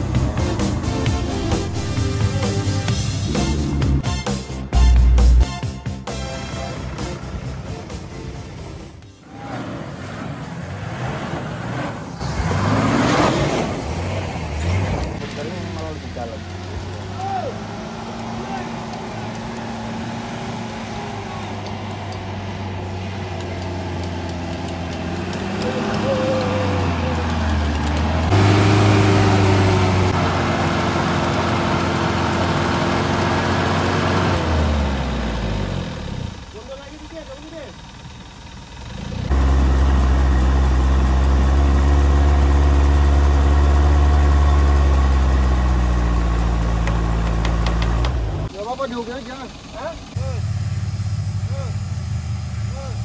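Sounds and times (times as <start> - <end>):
engine running at low revs: 0.0 - 4.1, 4.7 - 53.0.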